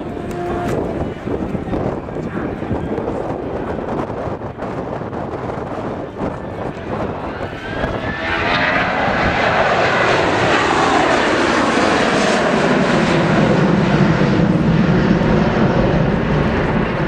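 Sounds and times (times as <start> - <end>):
jet airliner flying past: 0.0 - 17.0.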